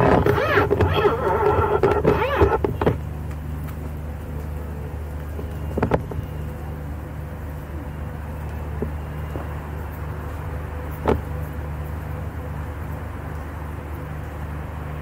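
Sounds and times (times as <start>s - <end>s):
ship machinery hum: 0.0s - 15.0s.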